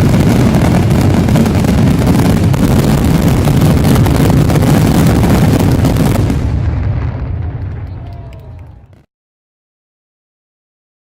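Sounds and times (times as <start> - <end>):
fireworks crackling: 0.0 - 9.1
low fireworks rumble: 0.0 - 9.1.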